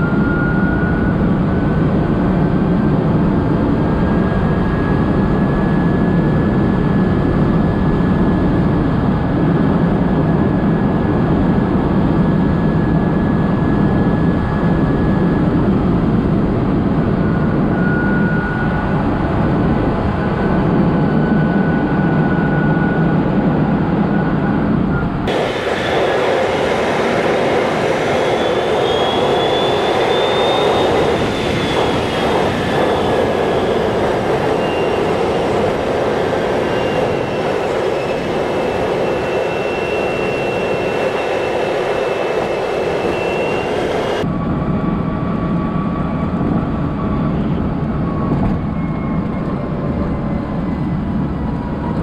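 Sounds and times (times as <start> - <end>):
wind and tyre noise: 0.0 - 52.0.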